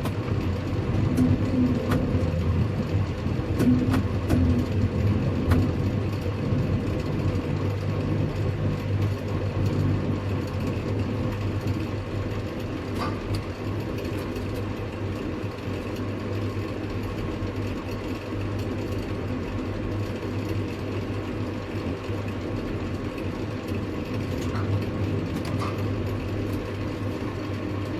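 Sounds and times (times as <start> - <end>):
heavy machinery humming: 0.0 - 27.9.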